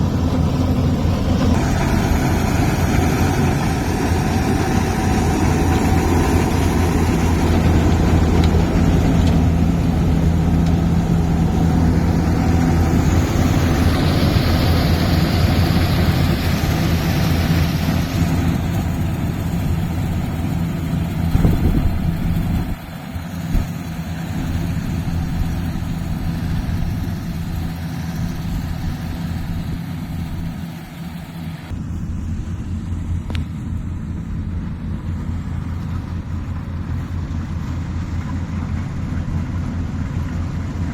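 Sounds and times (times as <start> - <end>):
harvester engine humming: 0.0 - 40.9.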